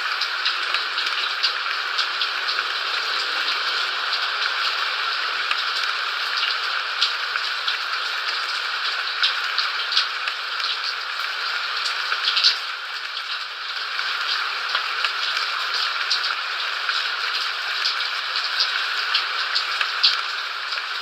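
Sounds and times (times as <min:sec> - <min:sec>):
rain falling on a surface: 0:00.0 - 0:21.0.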